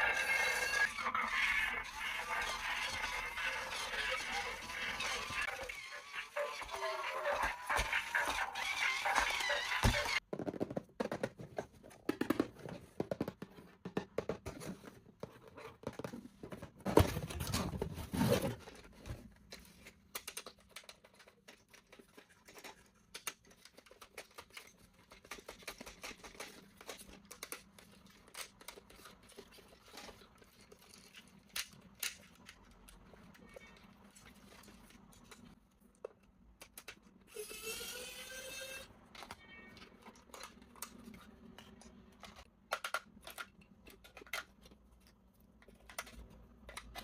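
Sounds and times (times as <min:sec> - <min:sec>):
plastic parts clicking and scraping: 0:00.0 - 0:47.0.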